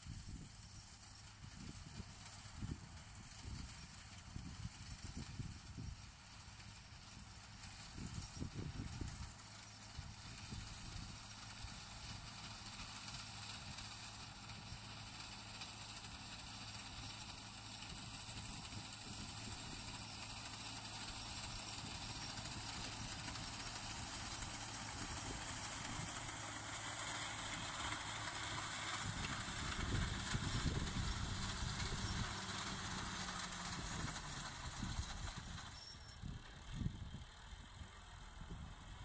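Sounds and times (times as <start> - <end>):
tractor engine running: 0.1 - 39.0.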